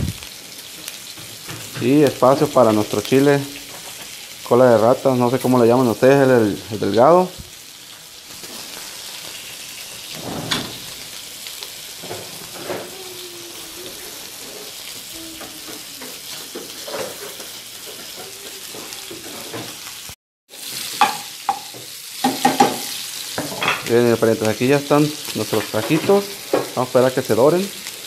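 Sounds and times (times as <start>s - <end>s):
meat sizzling in oil: 0.0s - 28.0s.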